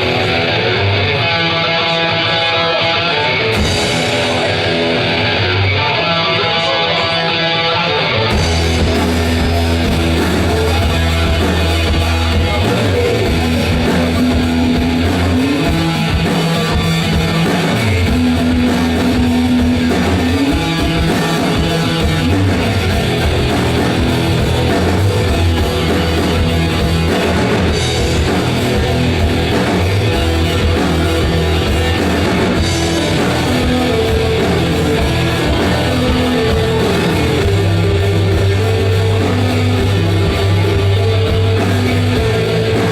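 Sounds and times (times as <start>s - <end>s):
bass guitar long notes: 0.0s - 42.9s
drum kit: 0.0s - 42.9s
electric guitar: 0.0s - 42.9s.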